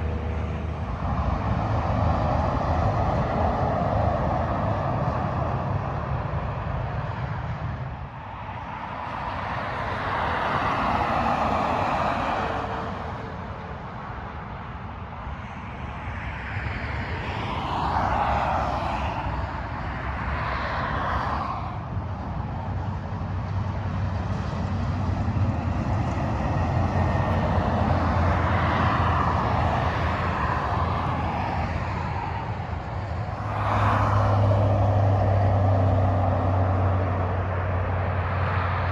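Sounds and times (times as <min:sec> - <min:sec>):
freeway traffic passing: 0:00.0 - 0:38.9
low engine hum: 0:00.0 - 0:38.9.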